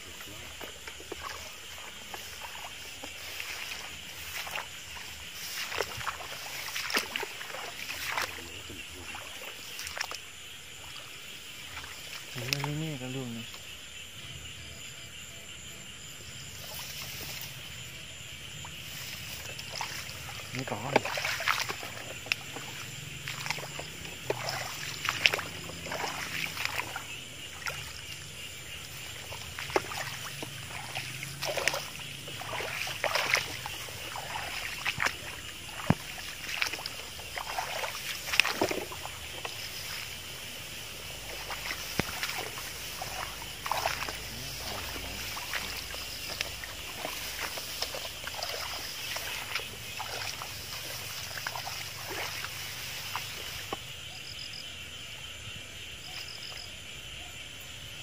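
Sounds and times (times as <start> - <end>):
footsteps splashing through water: 0.0 - 12.8, 16.6 - 17.7, 18.6 - 54.0
frogs calling: 0.0 - 58.0.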